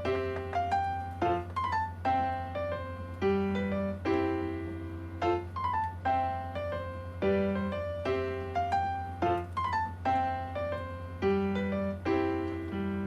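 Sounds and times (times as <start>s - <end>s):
low steady hum: 0.0s - 13.0s
piano melody: 0.0s - 13.0s.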